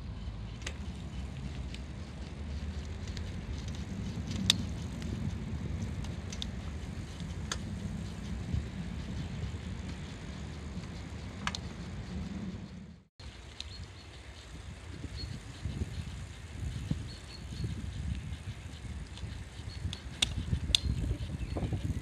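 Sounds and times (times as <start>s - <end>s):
bicycle riding rumble: 0.0s - 22.0s
bike rattling clicks: 0.5s - 22.0s.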